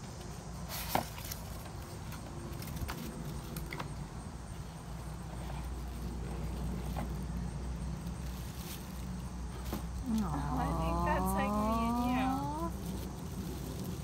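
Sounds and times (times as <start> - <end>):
faint rustles and clicks: 0.0 - 14.0.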